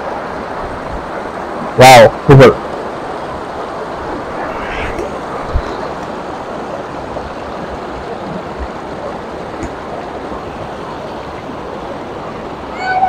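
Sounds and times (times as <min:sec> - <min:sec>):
waterfall and creek water rushing: 0:00.0 - 0:13.0.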